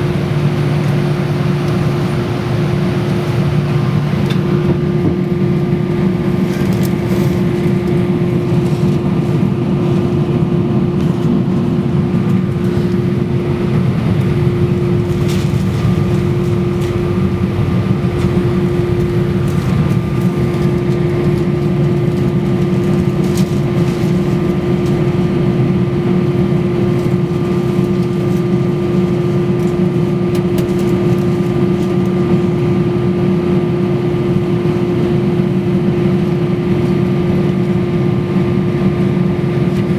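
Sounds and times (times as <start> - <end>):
airliner engines whining in cabin: 0.0 - 39.9.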